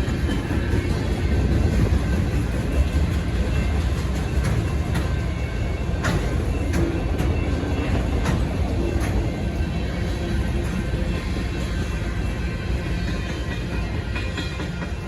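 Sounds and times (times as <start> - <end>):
freight train rumbling past: 0.0 - 15.0
wheels clicking over rail joints: 0.0 - 15.0.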